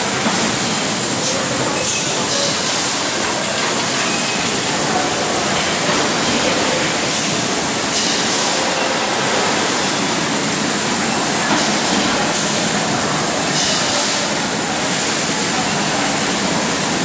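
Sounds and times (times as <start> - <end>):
bottling machinery hiss: 0.1 - 17.0.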